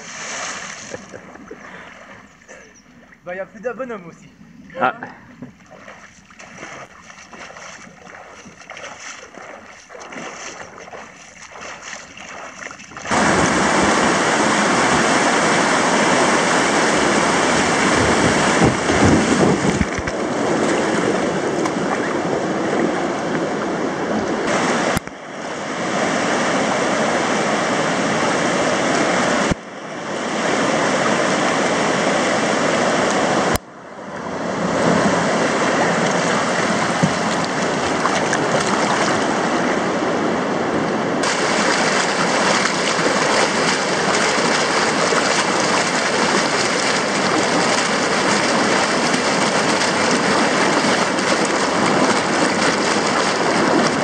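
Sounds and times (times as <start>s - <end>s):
water rushing over a weir: 0.0s - 3.3s, 4.8s - 54.0s.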